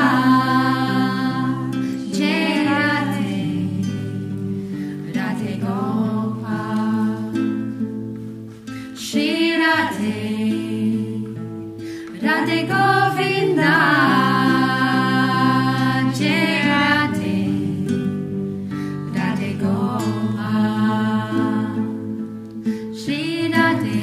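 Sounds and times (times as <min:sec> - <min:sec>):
voices singing: 0:00.0 - 0:07.8, 0:08.5 - 0:24.0
strummed acoustic guitar: 0:00.0 - 0:24.0.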